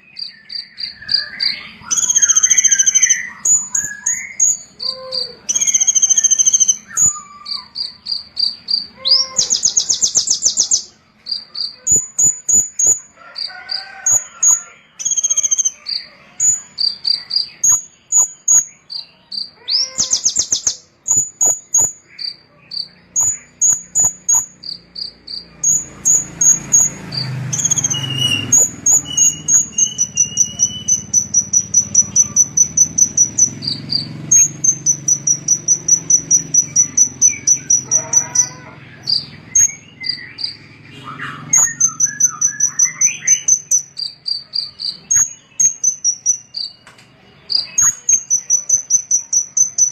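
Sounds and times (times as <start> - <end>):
small songbird singing: 0.0 - 49.9.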